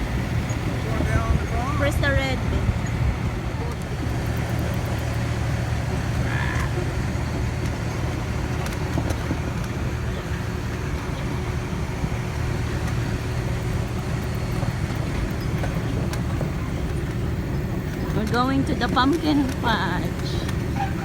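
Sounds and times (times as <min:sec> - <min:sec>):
tractor engine running: 0:00.0 - 0:21.0
wagon rolling: 0:00.0 - 0:21.0.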